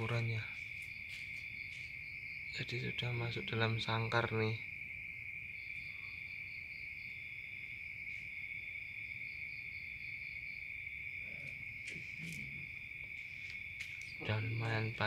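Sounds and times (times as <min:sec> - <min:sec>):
crickets steady trill: 0:00.0 - 0:15.0
pulsing cricket trill: 0:00.0 - 0:15.0.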